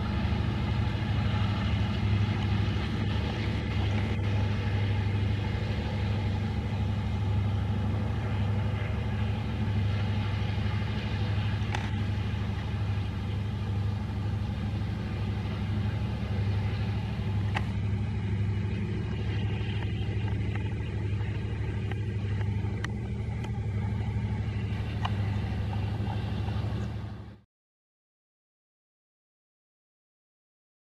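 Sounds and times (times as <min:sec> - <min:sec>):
locomotive engine droning: 0:00.0 - 0:27.4.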